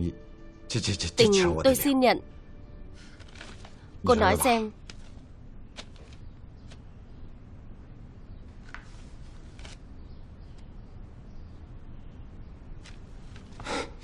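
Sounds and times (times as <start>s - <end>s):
low steady hum: 1.2s - 13.5s.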